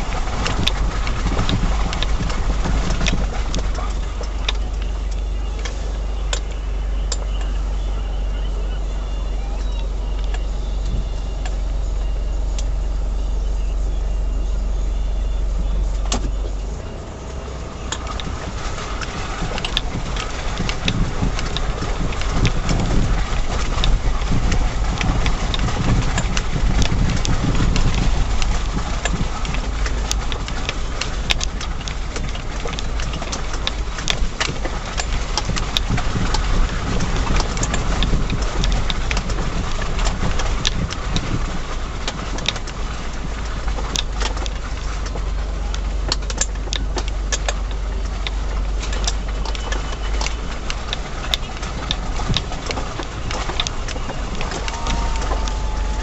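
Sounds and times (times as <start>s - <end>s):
vehicle knocks and rattles: 0.0s - 7.7s, 15.6s - 56.0s
diesel engine drone: 0.0s - 56.0s.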